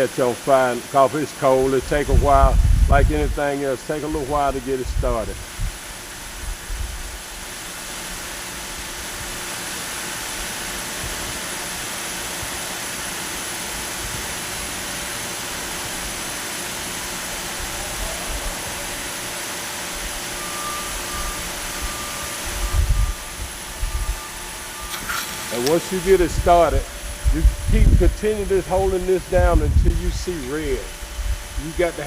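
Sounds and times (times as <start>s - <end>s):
gas heater hissing: 0.0s - 32.0s.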